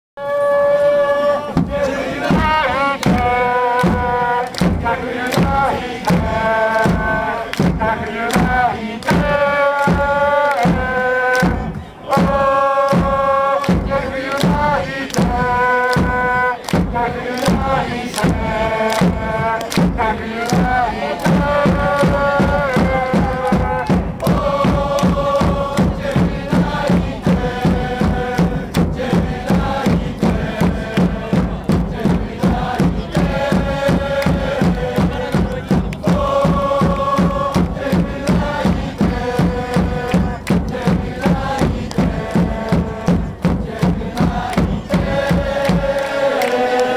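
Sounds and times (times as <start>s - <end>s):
crowd chanting in unison: 0.2s - 46.9s
steady drum beat: 1.5s - 46.9s.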